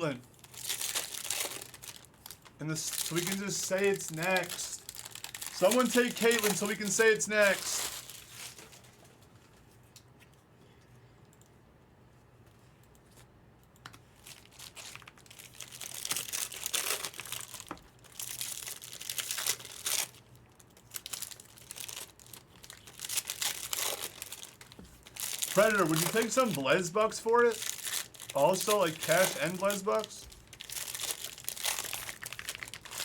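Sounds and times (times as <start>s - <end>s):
card pack wrappers tearing and crinkling: 0.1s - 8.9s, 14.2s - 33.0s.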